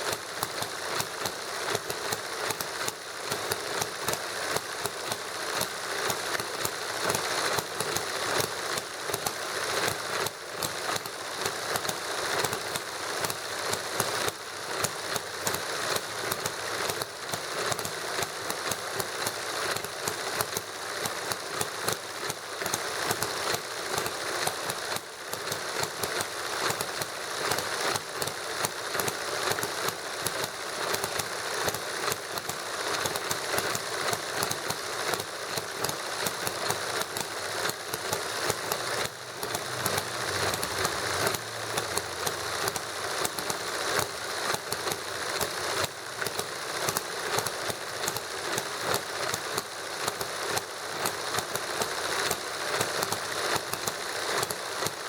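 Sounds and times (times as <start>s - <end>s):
fast mechanical clatter: 0.0s - 55.0s
small gasoline engine popping: 0.0s - 55.0s.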